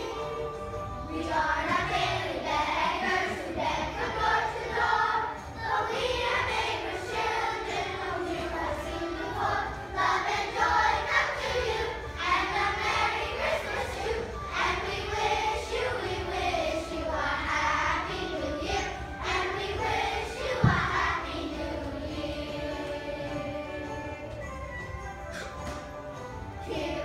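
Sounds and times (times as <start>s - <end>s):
children singing together: 0.0s - 24.4s, 25.3s - 27.0s.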